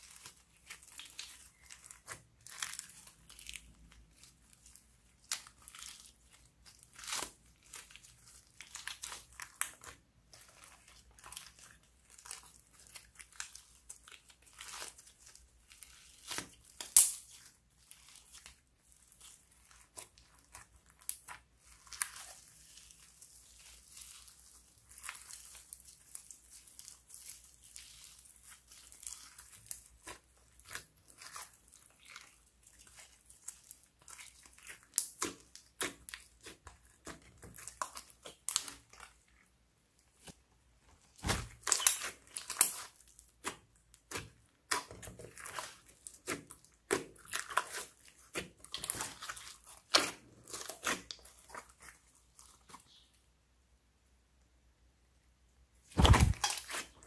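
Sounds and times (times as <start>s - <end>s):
sticky slime crackles and pops: 0.0s - 39.4s, 41.0s - 53.0s, 55.9s - 57.0s.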